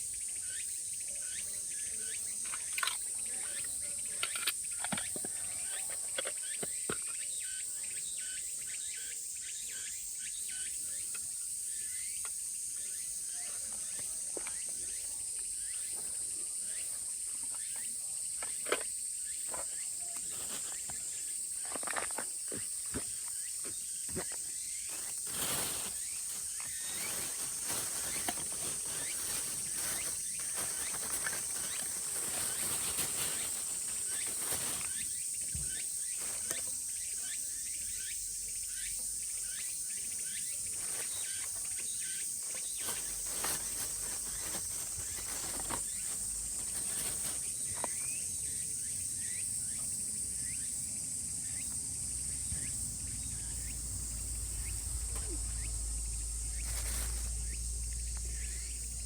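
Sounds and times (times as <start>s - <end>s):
cicadas singing: 0.0s - 59.0s.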